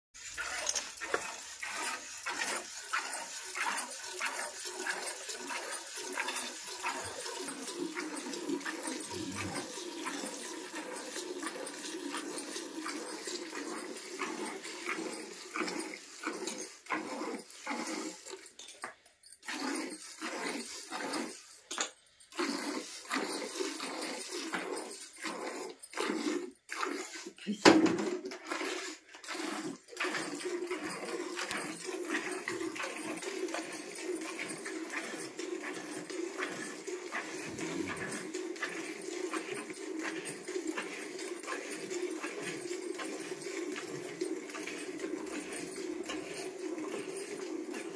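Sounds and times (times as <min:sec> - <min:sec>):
milk squirting into steel bucket: 0:00.2 - 0:18.4, 0:22.3 - 0:27.4, 0:28.2 - 0:47.9.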